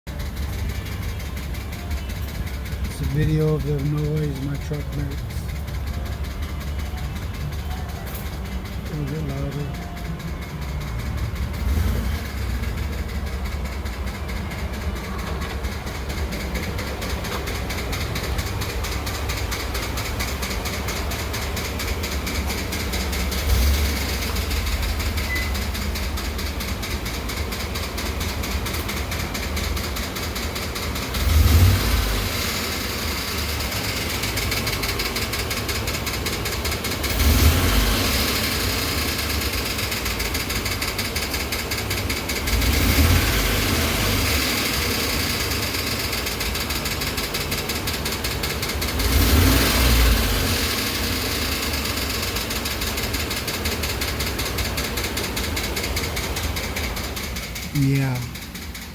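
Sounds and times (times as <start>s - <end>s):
engine knocking: 0.1s - 58.9s.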